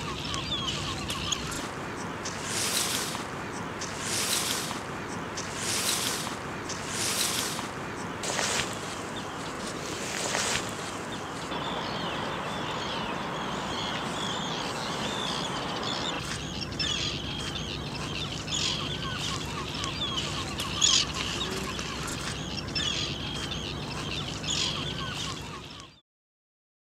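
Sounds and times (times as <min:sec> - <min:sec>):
steady background noise: 0:00.0 - 0:25.9
flock of birds calling: 0:00.0 - 0:26.0.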